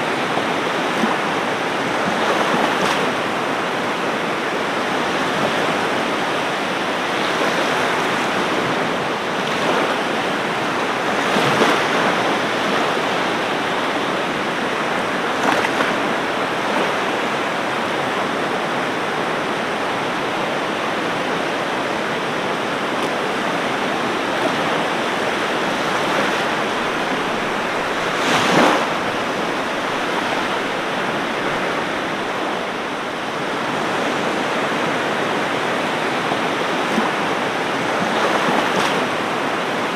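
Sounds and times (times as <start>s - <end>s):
ocean surf washing on beach: 0.0s - 39.9s.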